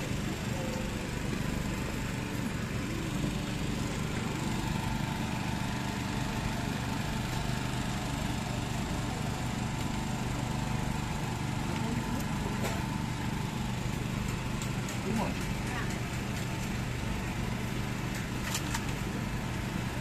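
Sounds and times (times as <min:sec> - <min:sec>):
machine drone: 0:00.0 - 0:20.0.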